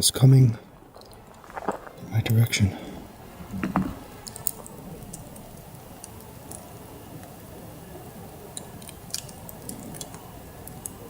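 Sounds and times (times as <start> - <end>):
campfire popping: 0.0 - 11.0
steady background hiss: 0.0 - 11.0.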